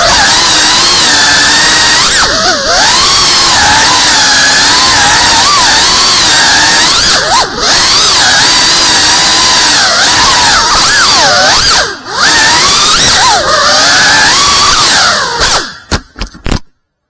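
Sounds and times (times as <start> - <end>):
quadcopter motors whining: 0.0 - 16.1.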